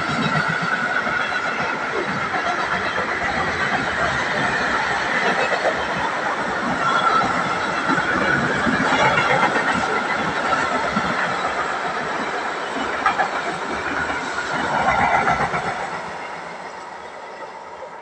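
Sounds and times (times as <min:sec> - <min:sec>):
freight train wheels on rail: 0:00.0 - 0:18.0.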